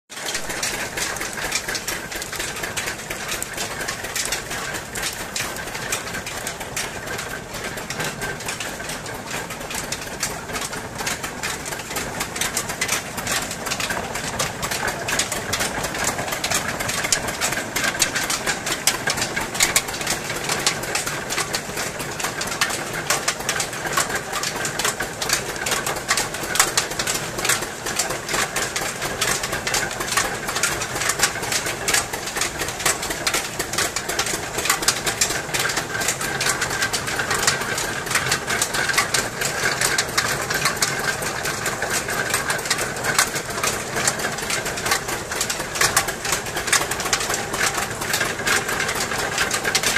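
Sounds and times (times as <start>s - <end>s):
crushing mill gears rattling: 0.2s - 49.9s.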